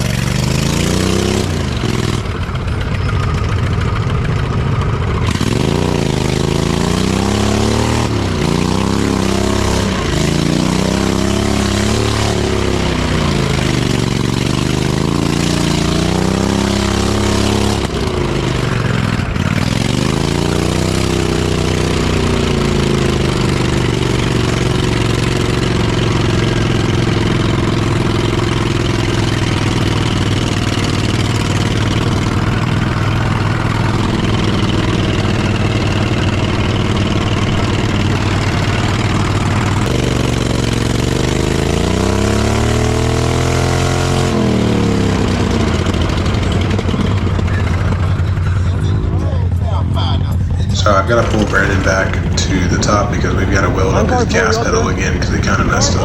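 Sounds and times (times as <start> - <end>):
mower engine revving: 0.0 - 49.2, 50.3 - 56.0.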